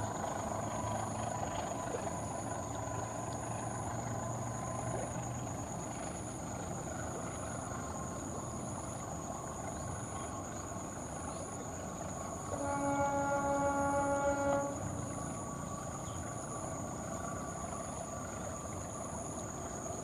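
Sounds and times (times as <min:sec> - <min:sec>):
distant locomotive engine running: 0:00.0 - 0:20.0
train rolling and hissing: 0:00.0 - 0:20.0.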